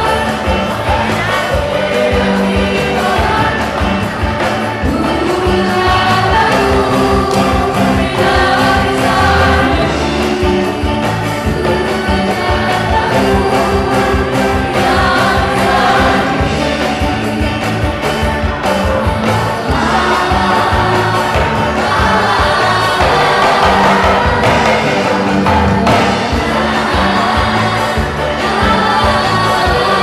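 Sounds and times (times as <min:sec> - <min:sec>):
group singing upbeat song: 0:00.0 - 0:30.0
instrumental accompaniment with beat: 0:00.0 - 0:30.0.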